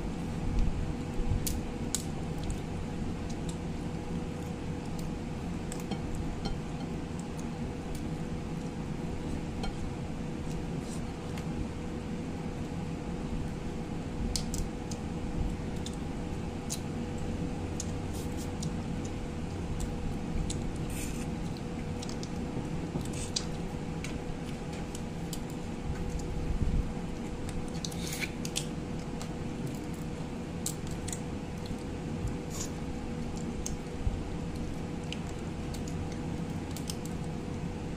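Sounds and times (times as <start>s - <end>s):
background hum: 0.0s - 37.9s.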